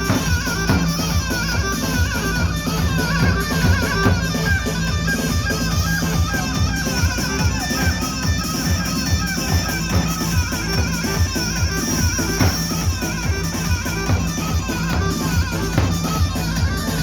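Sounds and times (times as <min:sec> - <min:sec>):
folk dance band music: 0:00.0 - 0:17.0.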